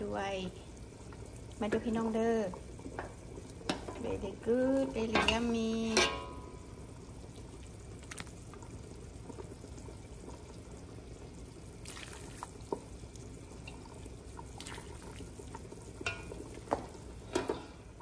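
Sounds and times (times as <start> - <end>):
steady rain hiss: 0.0 - 14.6.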